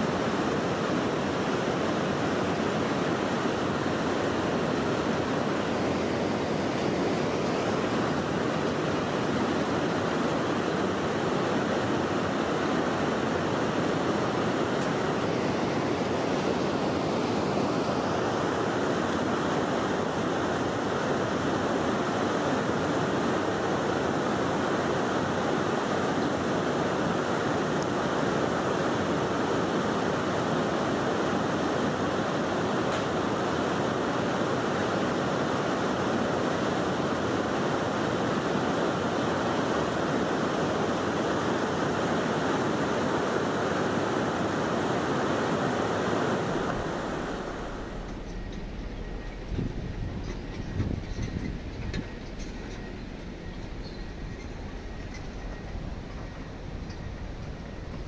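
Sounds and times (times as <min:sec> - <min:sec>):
river water rushing at weir: 0:00.0 - 0:58.0.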